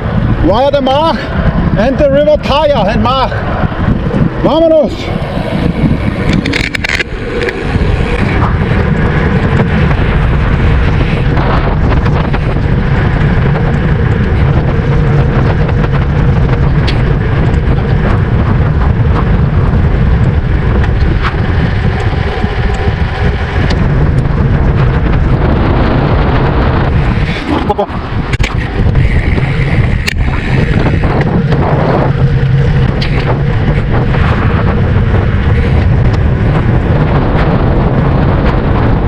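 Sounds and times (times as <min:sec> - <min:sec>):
wind buffeting microphone: 0:00.0 - 0:39.0
bicycle clicks and rattles: 0:01.0 - 0:39.0.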